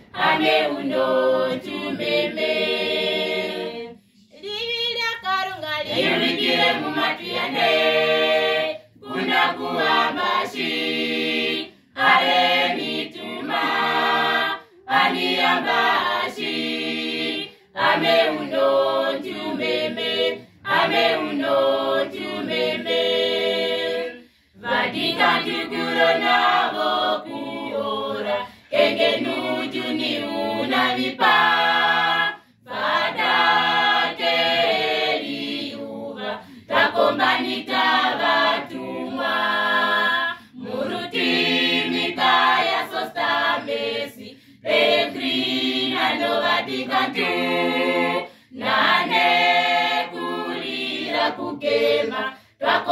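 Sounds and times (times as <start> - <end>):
youth choir singing a cappella: 0.0 - 52.9.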